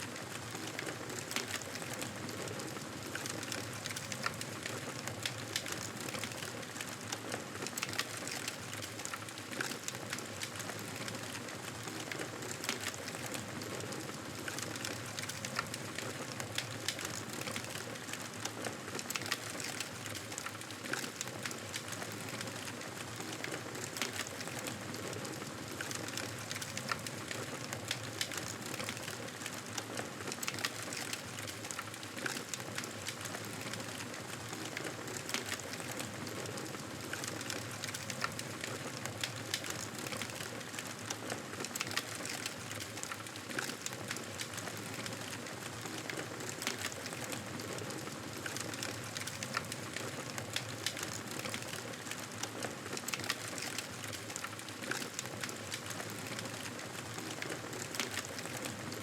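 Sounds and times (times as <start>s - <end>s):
campfire wood crackling and popping: 0.2s - 2.3s, 3.1s - 59.0s.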